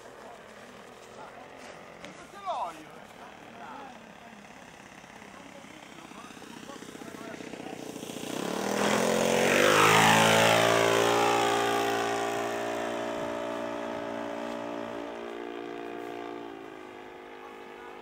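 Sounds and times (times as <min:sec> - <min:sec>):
model plane engine buzzing: 0:00.0 - 0:18.0.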